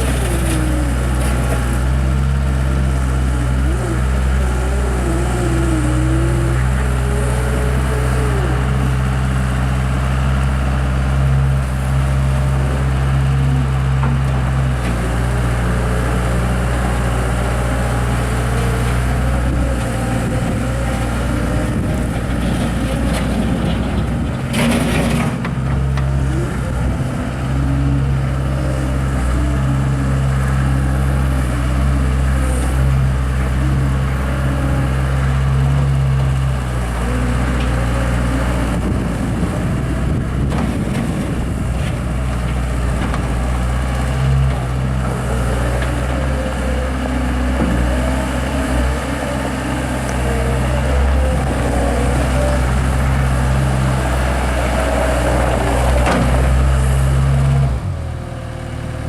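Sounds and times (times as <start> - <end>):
loader engine droning: 0.0 - 59.0.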